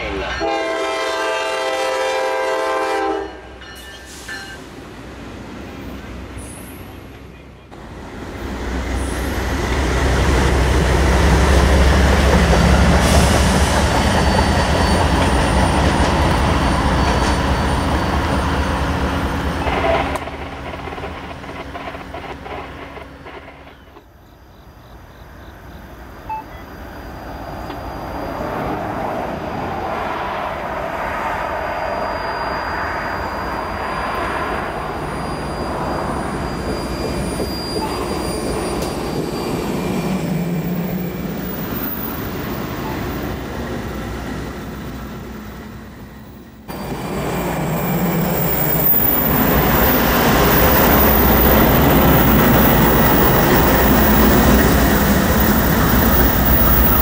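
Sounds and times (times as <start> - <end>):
diesel locomotives passing: 0.0 - 57.0
train wheels on rails: 0.0 - 57.0.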